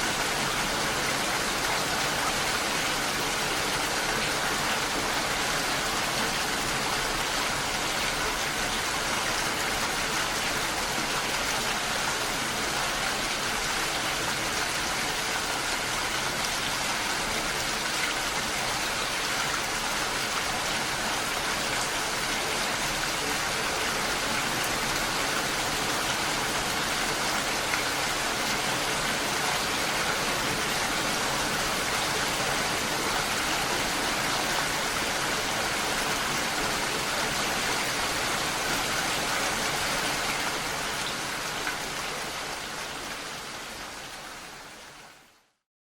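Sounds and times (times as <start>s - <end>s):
steady rain falling: 0.0s - 45.6s.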